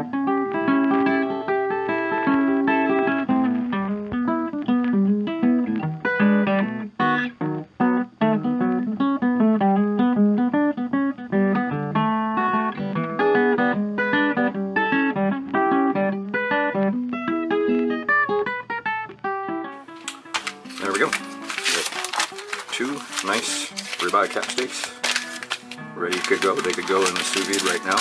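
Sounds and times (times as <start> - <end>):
plucked acoustic guitar music: 0.0 - 28.0.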